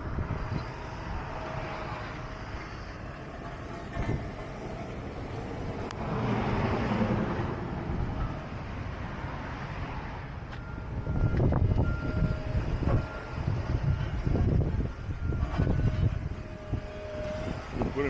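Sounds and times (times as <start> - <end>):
heavy vehicles rumbling: 0.0 - 18.0.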